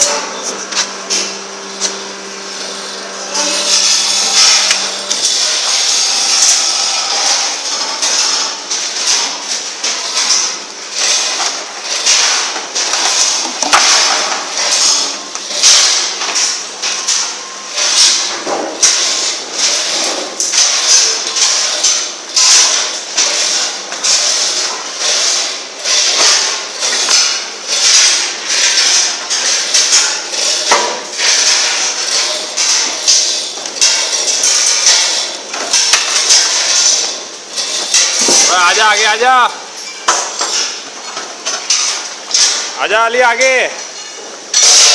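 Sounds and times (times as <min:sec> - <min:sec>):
loud metal knocks and clanks: 0:03.6 - 0:42.8, 0:43.8 - 0:44.9.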